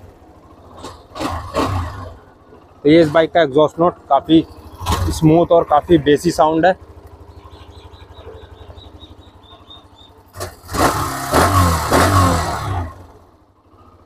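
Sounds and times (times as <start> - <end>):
motorcycle engine idling: 0.0 - 14.0
motorcycle engine revving: 0.0 - 14.0.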